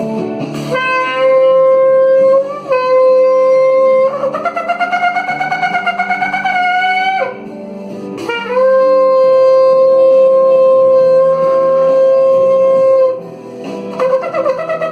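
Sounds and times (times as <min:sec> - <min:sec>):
soft instrumental backing: 0:00.0 - 0:14.9
shofar long blast: 0:00.6 - 0:07.5, 0:08.2 - 0:14.9.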